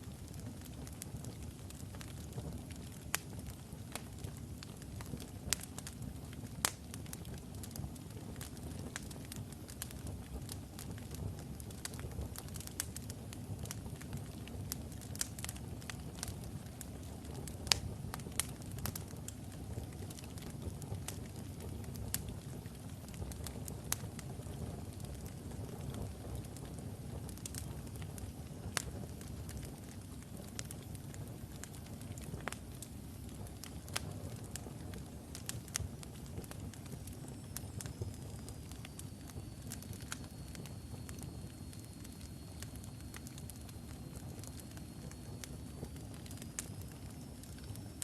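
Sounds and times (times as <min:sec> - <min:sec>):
fire crackles and pops: 0:00.0 - 0:48.0
wood fire burning: 0:00.0 - 0:48.0.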